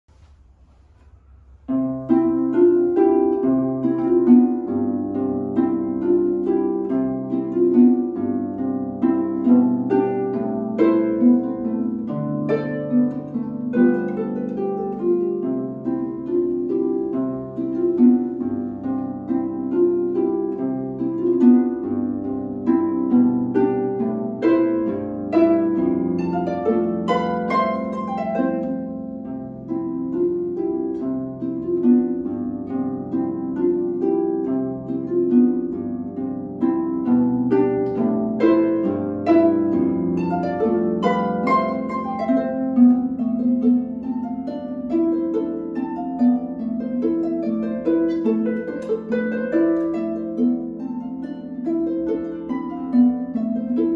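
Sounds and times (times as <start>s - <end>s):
harp plucked notes: 0.1s - 53.9s.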